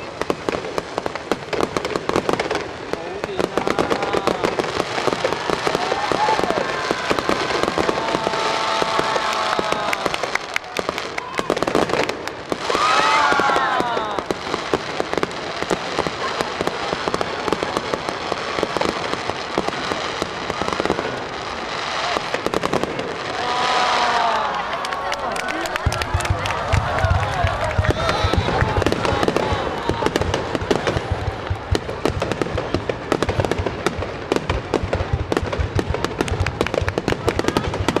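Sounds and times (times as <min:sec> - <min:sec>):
rising pitched firework tones: 0:00.0 - 0:24.7, 0:25.4 - 0:38.0
fireworks popping and crackling: 0:00.0 - 0:38.0.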